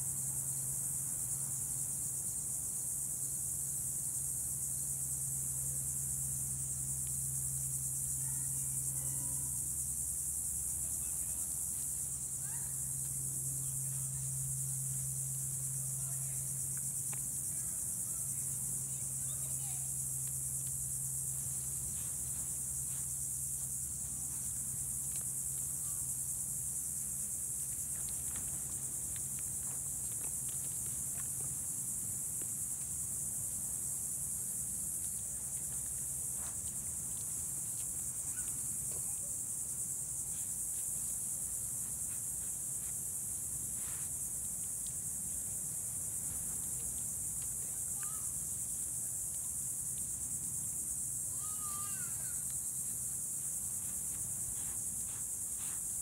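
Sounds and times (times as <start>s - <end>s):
shrill insect chorus: 0.0s - 56.0s.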